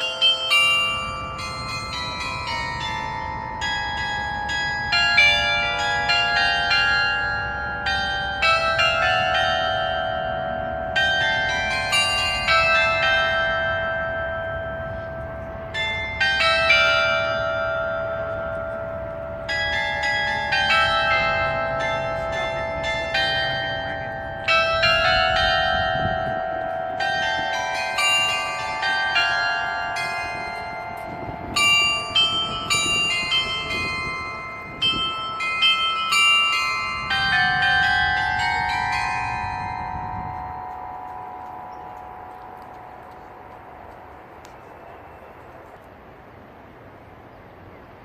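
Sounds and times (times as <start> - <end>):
carillon bells playing melody: 0.0 - 45.7.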